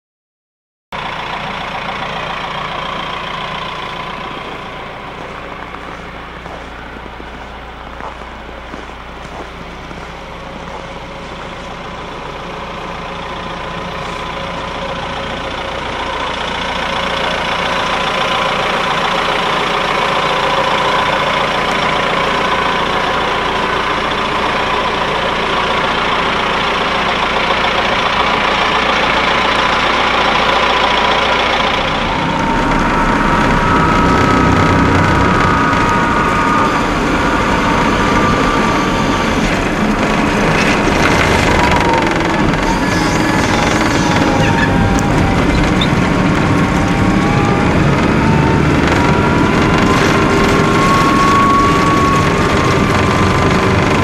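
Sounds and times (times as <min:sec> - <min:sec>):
diesel engine running: 0:00.9 - 0:54.0.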